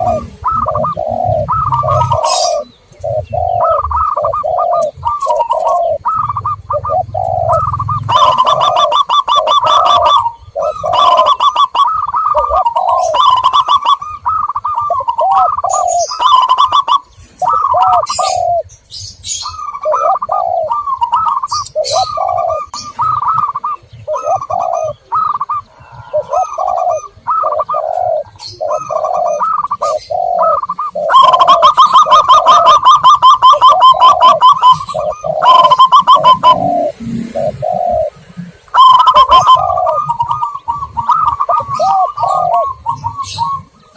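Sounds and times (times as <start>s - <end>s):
doves cooing: 0.0s - 43.9s
high bird chirps: 0.0s - 43.9s
rapid trilled cooing: 0.0s - 43.9s.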